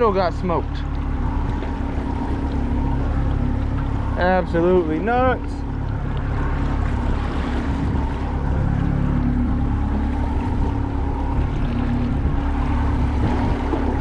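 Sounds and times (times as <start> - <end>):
outboard motor humming: 0.0 - 14.0
water noise: 0.0 - 14.0
wind noise: 0.8 - 14.0.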